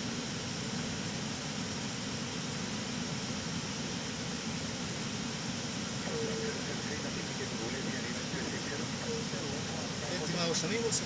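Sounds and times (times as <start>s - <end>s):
aircraft engine noise: 0.0s - 11.0s.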